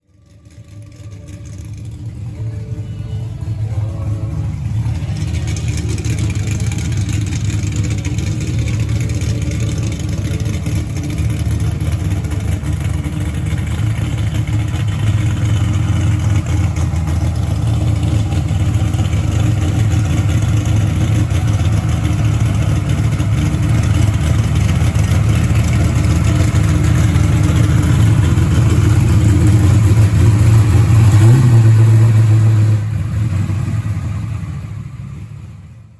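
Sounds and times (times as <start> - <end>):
car engine rumbling: 0.0 - 35.9.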